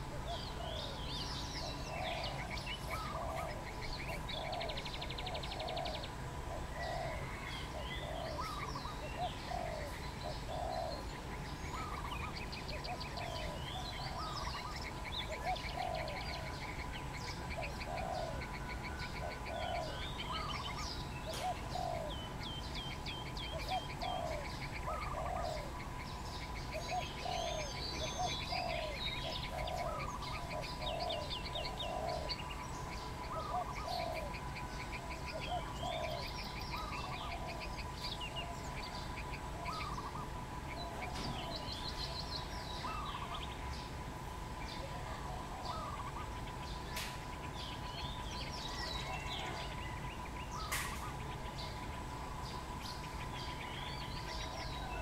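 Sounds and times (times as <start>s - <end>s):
bird chirps and trills: 0.0s - 55.0s.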